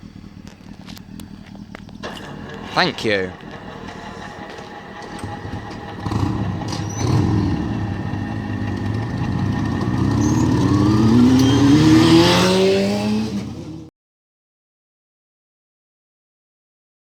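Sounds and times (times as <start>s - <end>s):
vehicle engine accelerating past: 0.0s - 13.9s.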